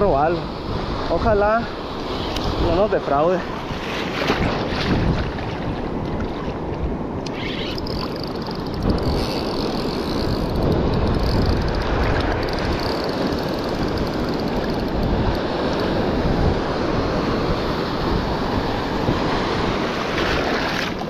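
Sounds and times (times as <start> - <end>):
surf washing: 0.0 - 21.0
wind buffeting microphone: 0.0 - 21.0.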